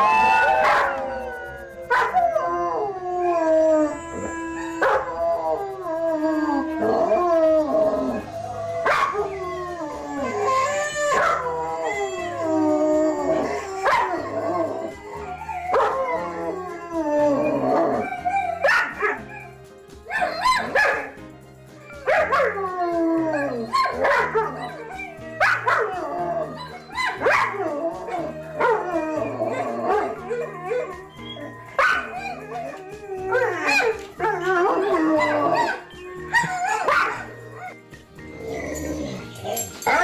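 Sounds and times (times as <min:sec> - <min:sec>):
dogs howling in chorus: 0:00.0 - 0:40.0
dogs yipping and barking: 0:00.0 - 0:40.0.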